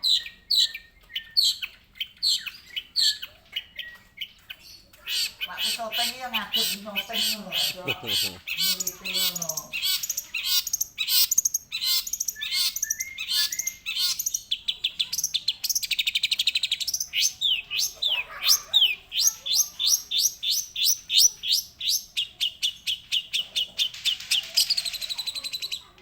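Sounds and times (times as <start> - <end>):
bird chattering song: 0.0 - 26.0.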